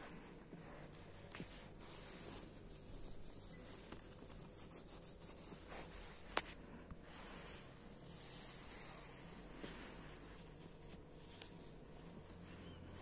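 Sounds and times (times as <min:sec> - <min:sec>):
jacket fabric and zipper rustling: 0:00.0 - 0:13.0.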